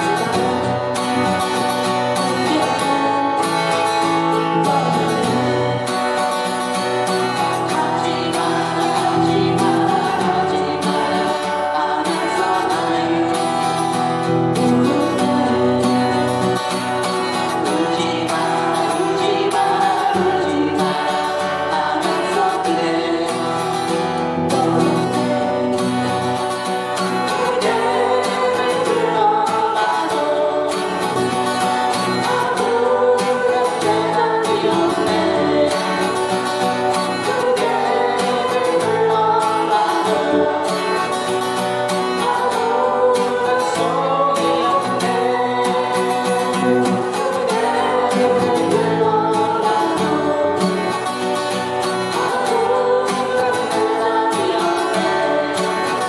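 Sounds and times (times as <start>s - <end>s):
acoustic guitar accompaniment: 0.0s - 56.0s
person singing a pop ballad: 0.0s - 56.0s.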